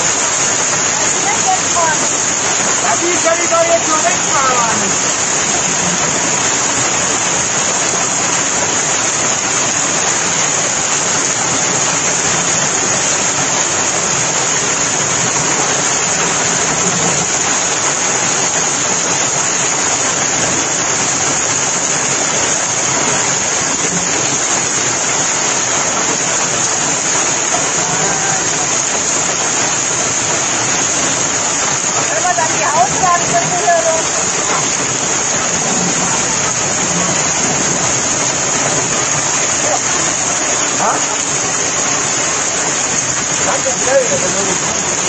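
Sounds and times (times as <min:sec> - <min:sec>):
heavy rain downpour: 0:00.0 - 0:45.0.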